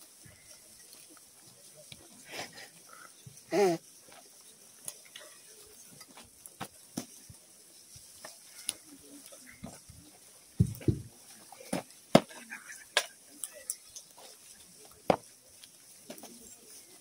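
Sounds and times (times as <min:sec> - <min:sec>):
faint clicks and rustles: 0:00.0 - 0:17.0.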